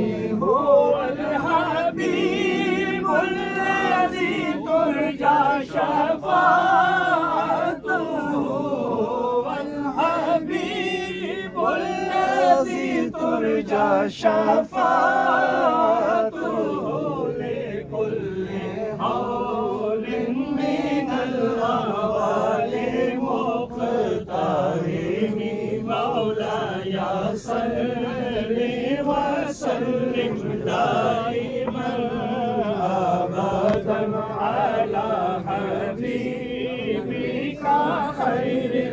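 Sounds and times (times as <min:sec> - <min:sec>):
men chanting in unison: 0:00.0 - 0:38.9.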